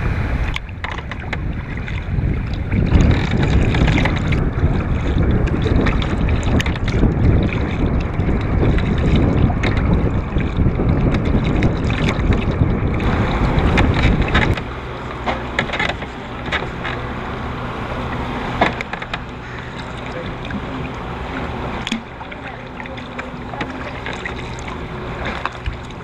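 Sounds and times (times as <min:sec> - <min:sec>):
paddles splashing in water: 0:00.0 - 0:26.0
wind rumbling on microphone: 0:00.0 - 0:26.0.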